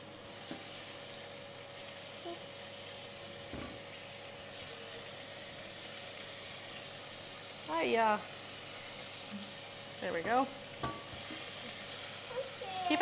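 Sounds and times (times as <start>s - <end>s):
garlic sizzling in a pot: 0.0s - 13.0s.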